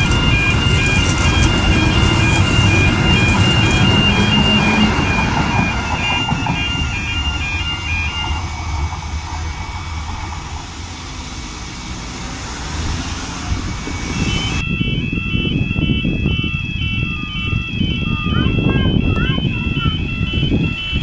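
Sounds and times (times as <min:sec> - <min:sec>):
train rumbling past on rails: 0:00.0 - 0:21.0
two-tone crossing alarm warbling: 0:00.0 - 0:21.0.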